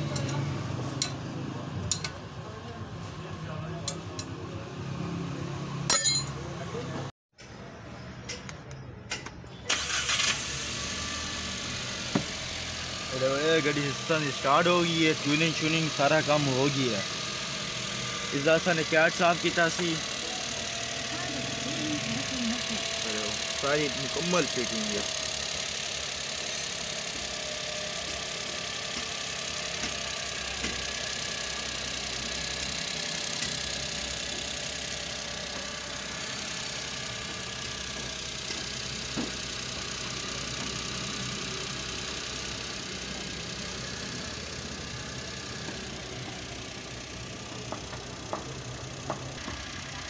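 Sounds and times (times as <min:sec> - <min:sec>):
car engine idling: 0:09.7 - 0:50.0.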